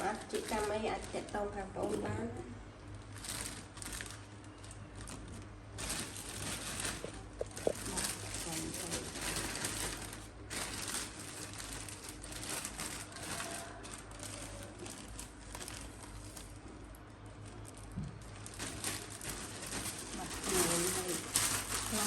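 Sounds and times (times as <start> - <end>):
soft crinkling and rustling: 0.0 - 22.0.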